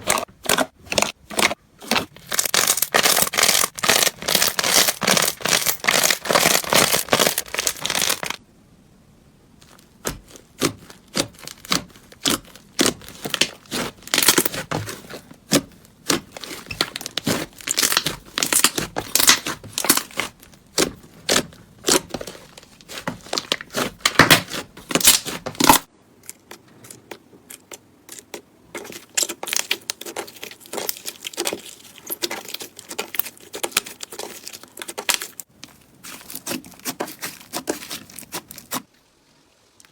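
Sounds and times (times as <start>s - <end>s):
slime crackling and popping: 0.0s - 8.4s, 9.6s - 25.9s, 27.5s - 38.9s.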